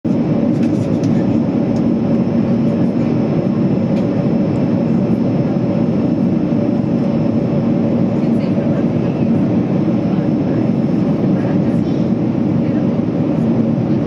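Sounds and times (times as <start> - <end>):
airliner cabin drone: 0.1 - 14.0.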